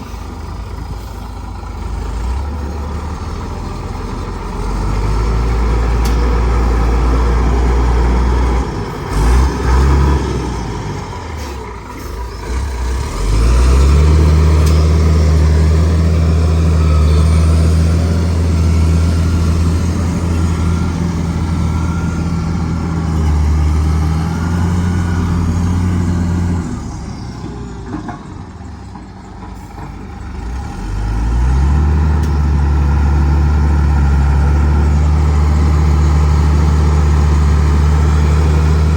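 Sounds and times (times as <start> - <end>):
bulldozer diesel engine: 0.0 - 38.9.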